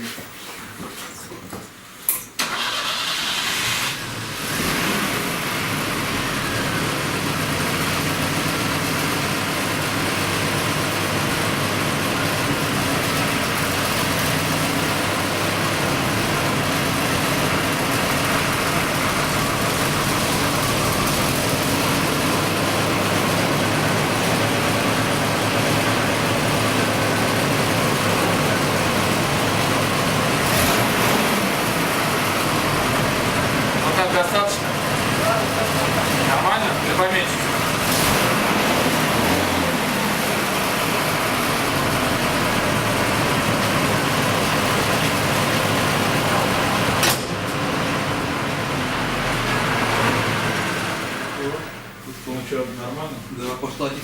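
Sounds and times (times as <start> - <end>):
car engine running: 2.4 - 51.9.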